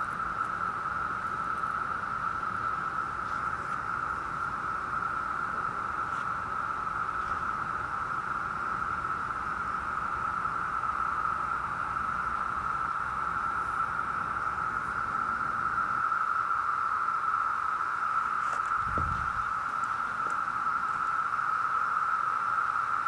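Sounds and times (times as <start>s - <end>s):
cicadas chorus: 0.0s - 23.0s.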